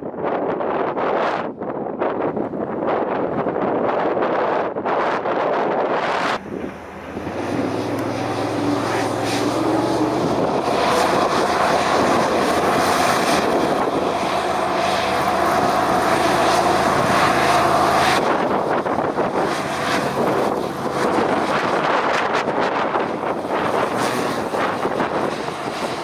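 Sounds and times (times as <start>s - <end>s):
wind noise on microphone: 0.0s - 26.0s
hovercraft engine and propeller: 2.4s - 26.0s.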